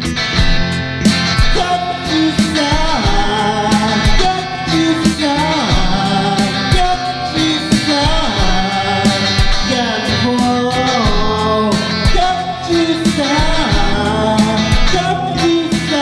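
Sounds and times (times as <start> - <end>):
rock band music: 0.0 - 16.0.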